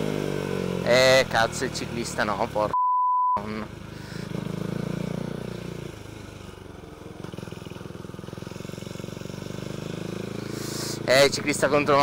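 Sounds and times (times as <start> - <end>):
motorcycle engine accelerating: 0.0 - 2.8, 3.4 - 12.0.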